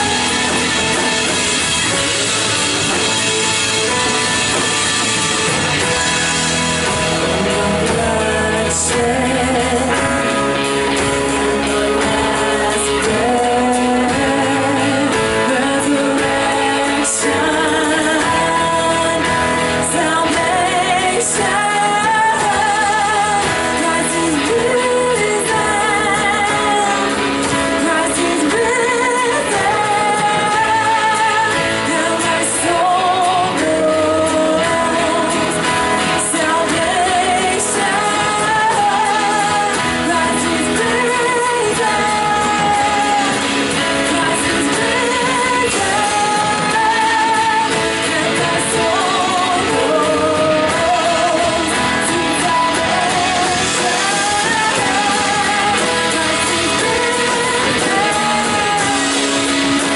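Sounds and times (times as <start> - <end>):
drums: 0.0 - 59.9
guitar: 0.0 - 59.9
voices singing: 0.0 - 59.9.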